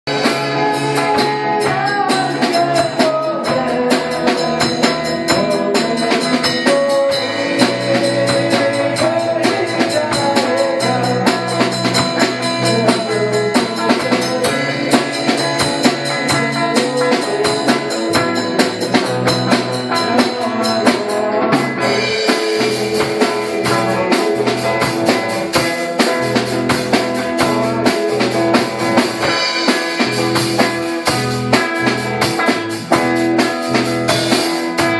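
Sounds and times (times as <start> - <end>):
band playing a song: 0.1 - 34.9.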